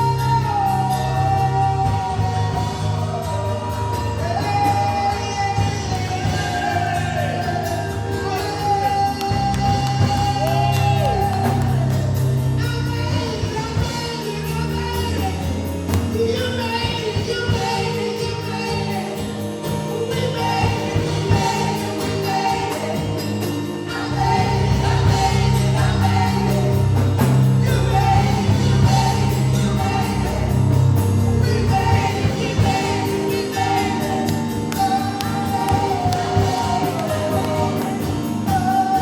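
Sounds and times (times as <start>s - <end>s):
band playing with heavy bass: 0.0s - 39.0s
voices singing gospel: 0.0s - 39.0s.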